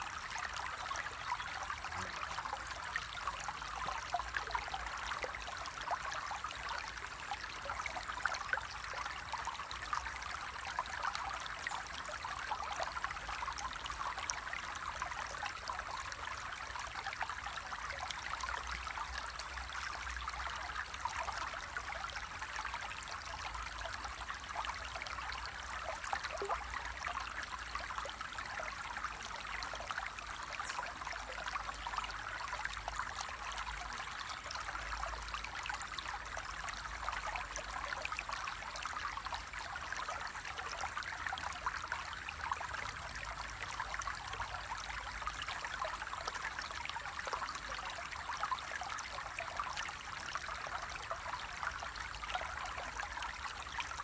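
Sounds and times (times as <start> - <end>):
stream running and splashing: 0.0 - 54.0.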